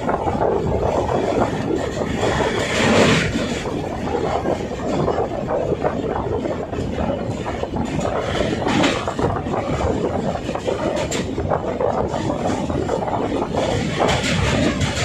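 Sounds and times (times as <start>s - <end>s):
fast train clattering: 0.0s - 15.0s
train wheels rumbling on rails: 0.0s - 15.0s.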